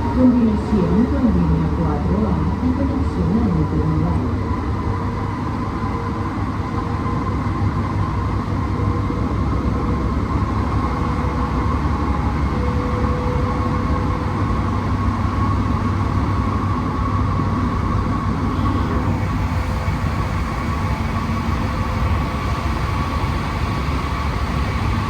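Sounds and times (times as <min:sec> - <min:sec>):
high whine: 0:00.0 - 0:25.0
train wheels rumbling on rails: 0:00.0 - 0:25.0.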